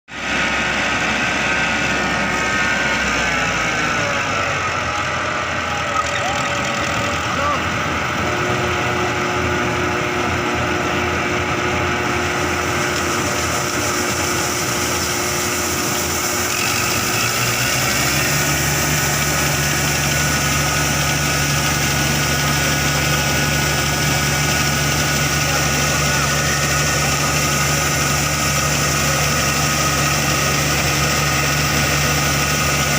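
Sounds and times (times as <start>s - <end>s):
combine harvester engine: 0.1s - 32.9s
high-pitched machine whine: 0.2s - 32.9s.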